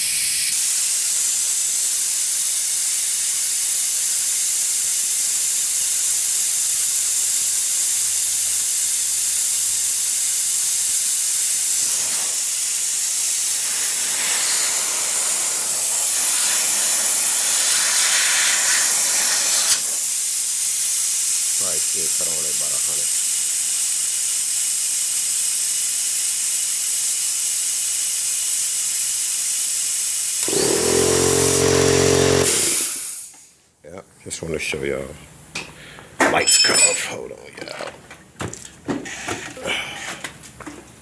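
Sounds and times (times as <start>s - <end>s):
compressed air hissing: 0.0s - 33.6s.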